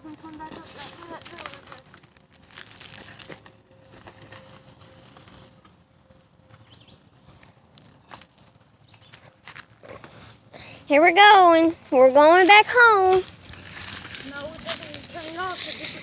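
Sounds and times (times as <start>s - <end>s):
crunching of dry leaves: 0.0s - 10.5s, 11.6s - 16.0s.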